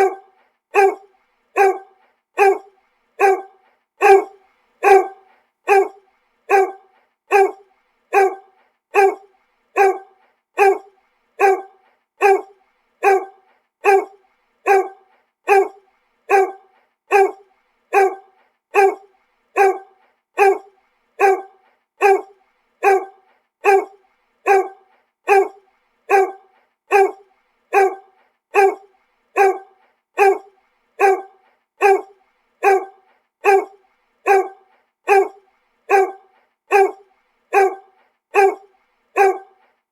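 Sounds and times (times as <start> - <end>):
dog barking: 0.0 - 39.6.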